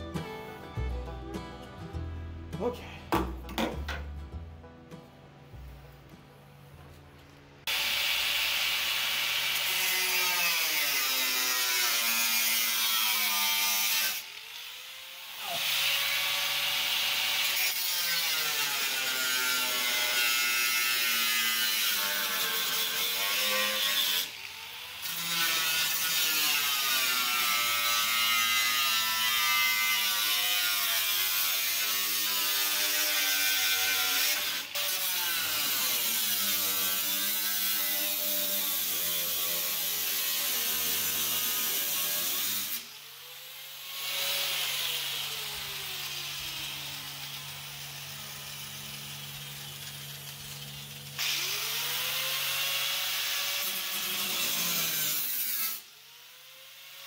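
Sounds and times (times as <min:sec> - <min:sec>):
cut-off wheel grinder cutting metal: 0:07.7 - 0:57.0.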